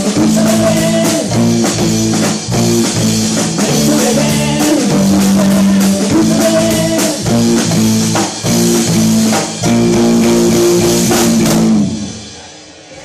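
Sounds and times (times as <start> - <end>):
electric guitar chords: 0.0 - 12.4
drum kit beat: 0.0 - 12.8.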